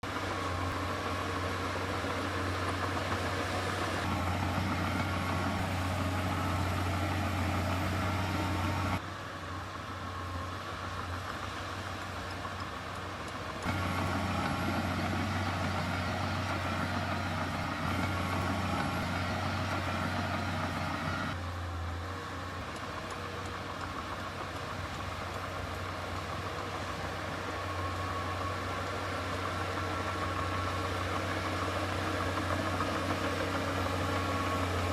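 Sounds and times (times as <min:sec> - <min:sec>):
diesel machinery running: 0:00.0 - 0:34.9.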